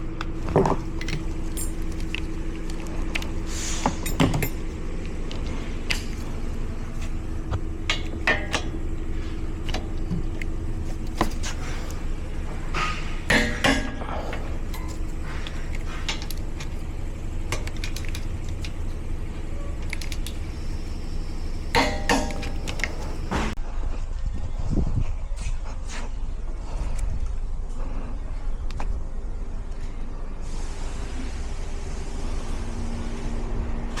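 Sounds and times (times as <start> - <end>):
vehicle low rumble: 0.0 - 34.0.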